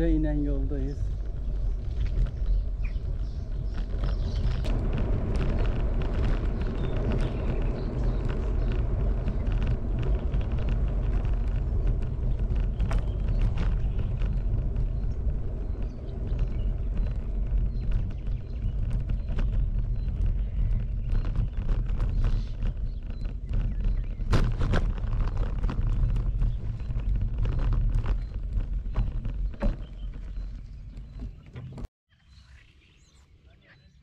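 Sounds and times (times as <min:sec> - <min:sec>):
low rumble: 0:00.0 - 0:31.9.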